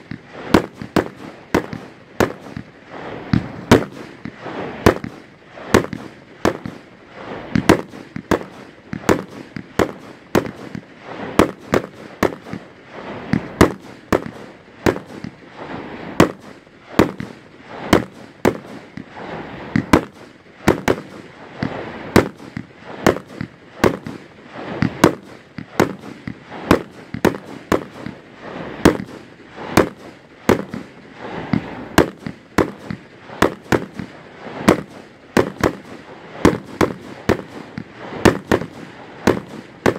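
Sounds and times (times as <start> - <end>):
fireworks bangs: 0.0 - 39.9
fireworks hiss and crackle: 0.0 - 39.9.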